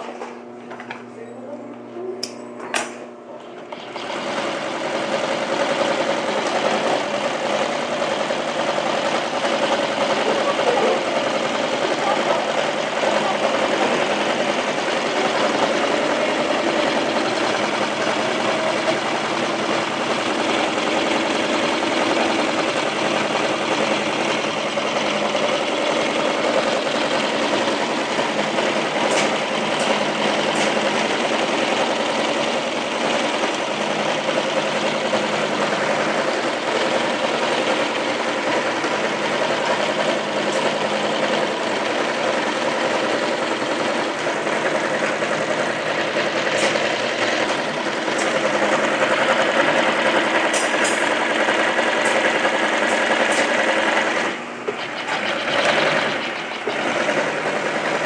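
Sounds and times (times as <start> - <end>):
sewing machine stitching: 3.6 - 58.0.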